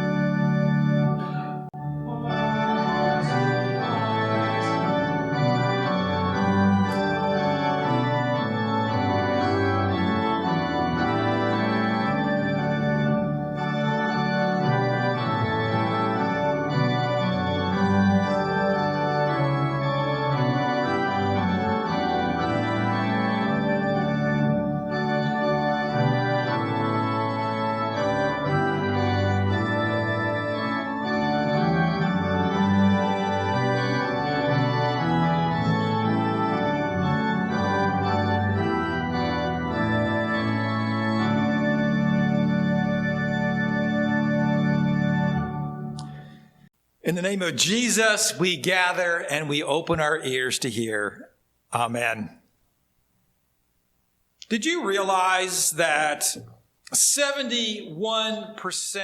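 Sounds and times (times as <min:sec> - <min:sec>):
church organ playing chords: 0:00.0 - 0:52.4, 0:54.4 - 0:59.0.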